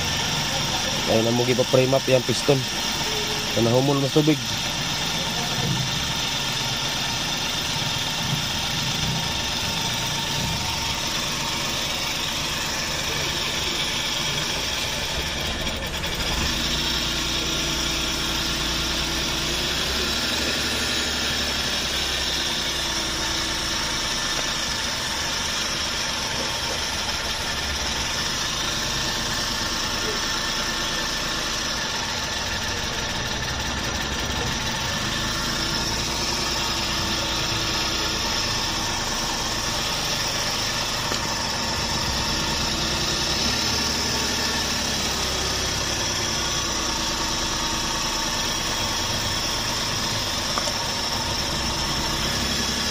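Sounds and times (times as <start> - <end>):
van engine idling: 0.0 - 52.9.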